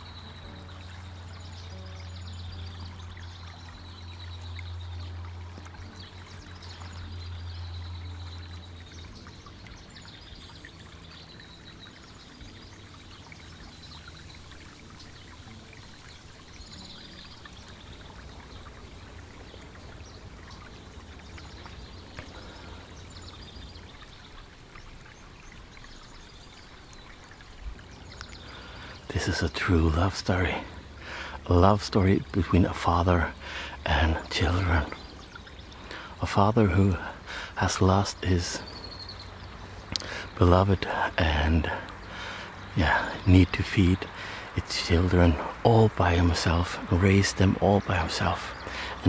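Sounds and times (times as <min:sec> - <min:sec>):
small birds singing: 0:00.0 - 0:49.0
steady rushing hiss: 0:04.7 - 0:49.0.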